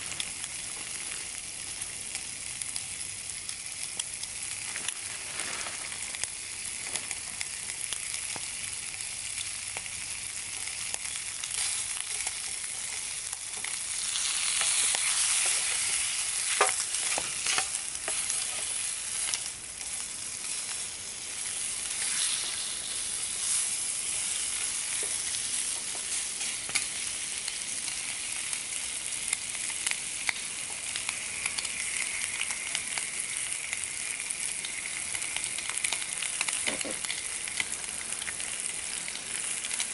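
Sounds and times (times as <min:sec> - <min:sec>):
bacon sizzling in a pan: 0:00.0 - 0:39.9.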